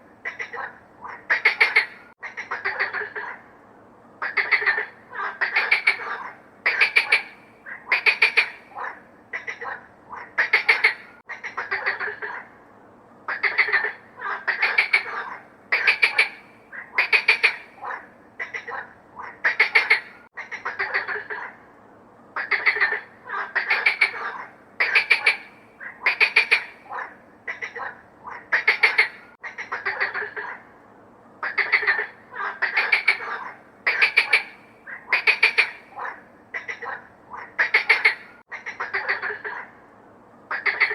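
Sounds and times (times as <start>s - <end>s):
frogs croaking: 0.0s - 3.6s, 4.2s - 21.7s, 22.3s - 30.8s, 31.4s - 39.9s, 40.5s - 40.9s.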